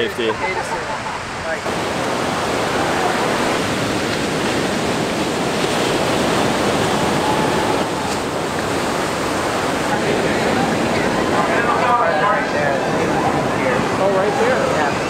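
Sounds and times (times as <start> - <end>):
ocean waves breaking: 0.0 - 15.0
surf wash: 0.0 - 15.0.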